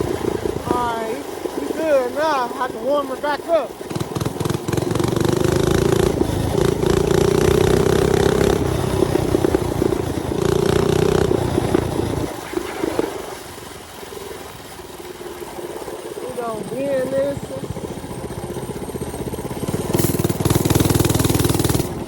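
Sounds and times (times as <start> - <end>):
small bike engine running: 0.0 - 22.0.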